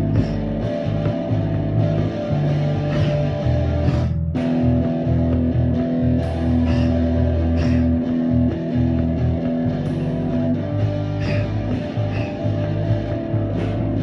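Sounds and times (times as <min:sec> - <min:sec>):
instrumental rock music with guitar: 0:00.0 - 0:14.0.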